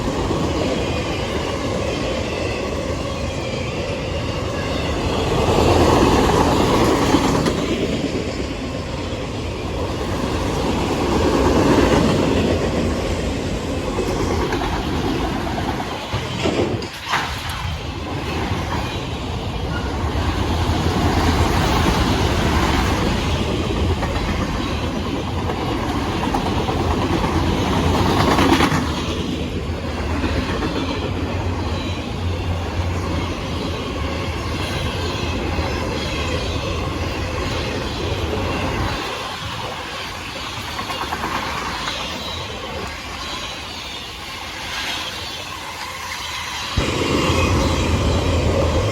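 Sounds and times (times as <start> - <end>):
freight train wheels on rails: 0.0 - 48.9.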